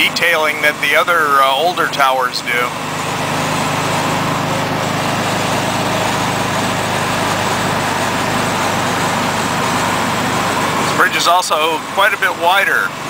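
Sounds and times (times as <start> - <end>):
car cabin engine and road hum: 0.0 - 12.8.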